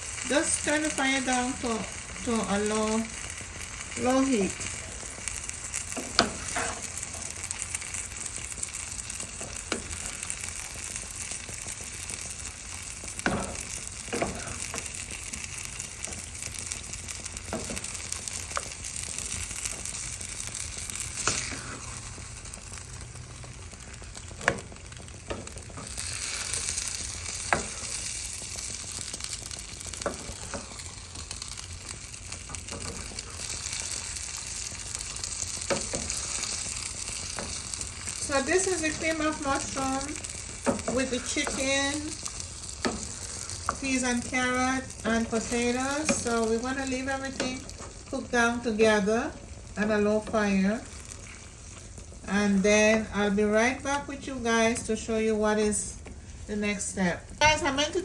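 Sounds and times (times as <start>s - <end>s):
pot sizzling on stove: 0.0s - 58.0s.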